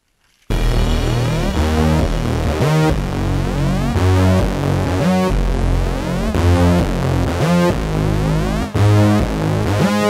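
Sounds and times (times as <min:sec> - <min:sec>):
electronic synthesizer music: 0:00.5 - 0:10.0.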